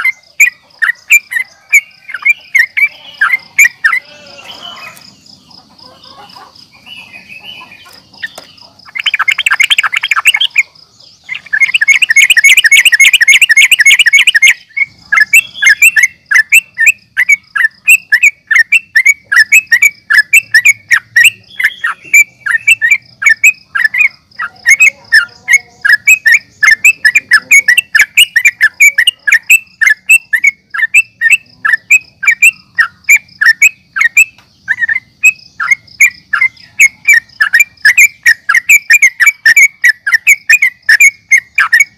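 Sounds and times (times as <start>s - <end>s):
bulbul chirping: 0.0s - 41.9s
harsh rattling bird calls: 0.0s - 41.9s.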